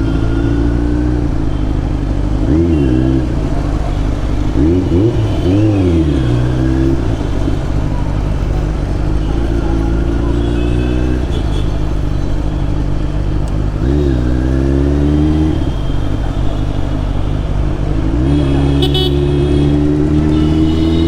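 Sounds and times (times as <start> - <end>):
motorcycle engine accelerating: 2.0 - 10.2, 10.9 - 21.0.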